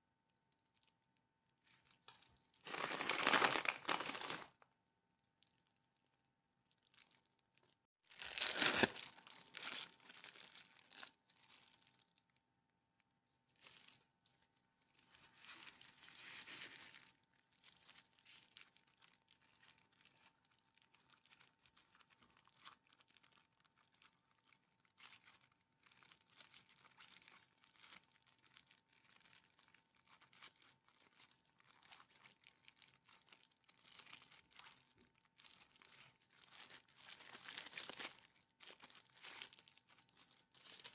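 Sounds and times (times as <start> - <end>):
plastic gloves and paper crinkling: 0.3 - 40.9.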